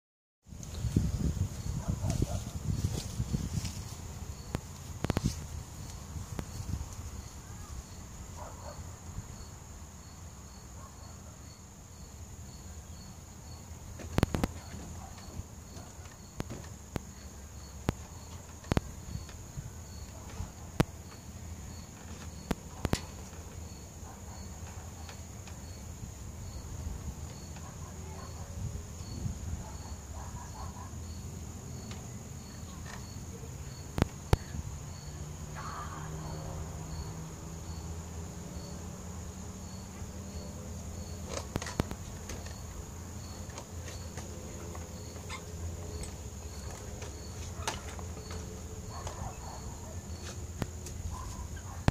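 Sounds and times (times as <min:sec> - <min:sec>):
cricket chirping: 0:00.7 - 0:51.9.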